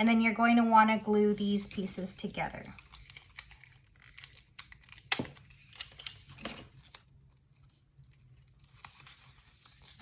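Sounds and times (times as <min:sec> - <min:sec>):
paper strips rustling and crinkling: 0:01.3 - 0:10.0.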